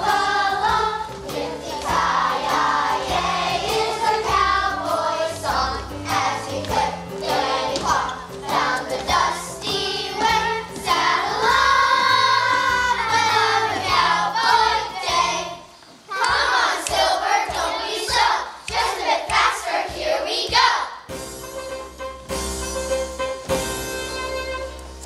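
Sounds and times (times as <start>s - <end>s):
musical accompaniment: 0.0s - 15.7s, 17.5s - 25.0s
children's choir singing: 0.0s - 21.1s.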